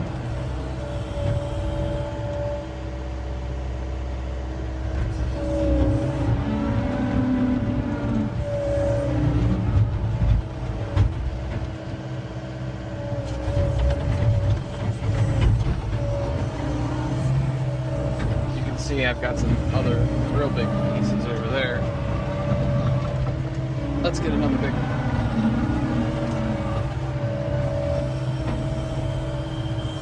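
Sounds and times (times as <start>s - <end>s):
diesel engine running under load: 0.0s - 30.0s
hydraulic whine: 0.0s - 30.0s.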